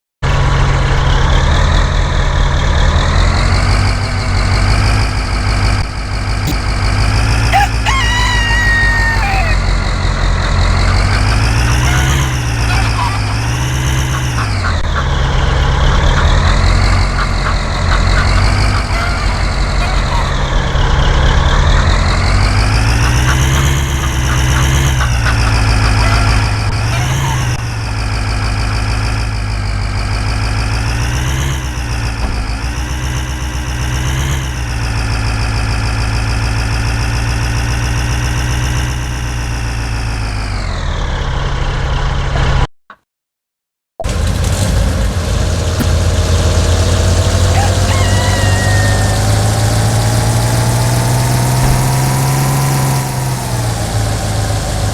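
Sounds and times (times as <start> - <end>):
engine whine: 0.2 - 42.7, 44.0 - 54.9
vehicle engine revving: 0.2 - 42.7, 44.0 - 54.9.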